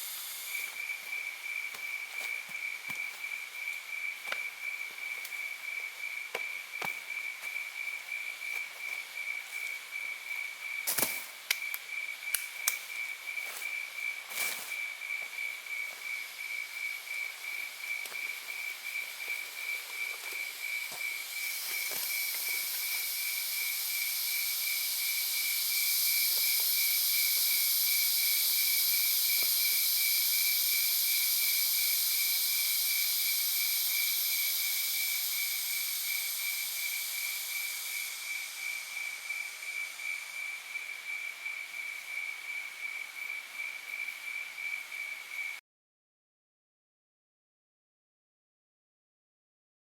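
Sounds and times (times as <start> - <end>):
high hiss: 0.0 - 45.6
insect chirping: 0.0 - 45.6.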